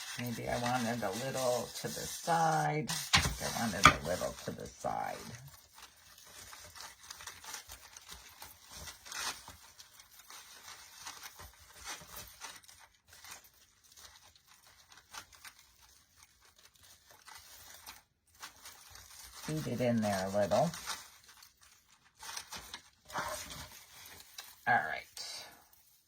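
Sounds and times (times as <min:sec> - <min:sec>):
artificial pine branches rustling: 0:00.0 - 0:26.0.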